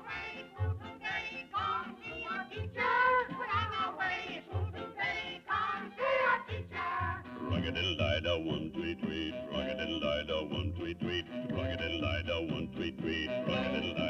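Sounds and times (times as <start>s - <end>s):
chorus singing jaunty tune: 0.0s - 14.0s
small orchestra: 0.0s - 14.0s.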